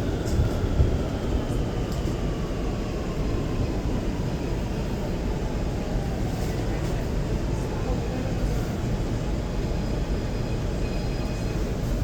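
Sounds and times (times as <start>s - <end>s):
subway car low rumble: 0.0s - 12.0s.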